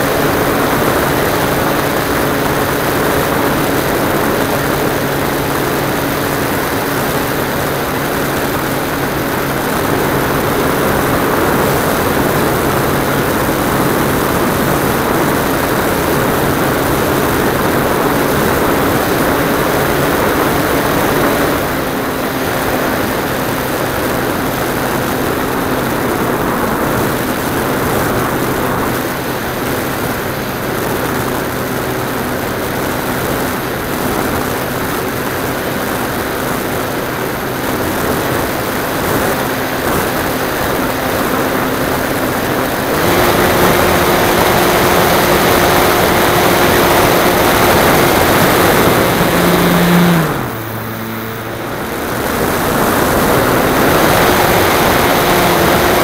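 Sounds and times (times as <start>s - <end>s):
propeller aircraft engine running: 0.0s - 56.0s
rush of air: 0.0s - 56.0s.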